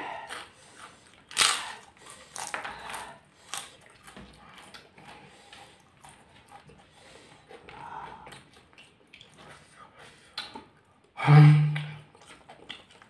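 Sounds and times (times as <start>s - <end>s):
crunchy food chewing: 0.1s - 11.1s, 11.9s - 13.0s.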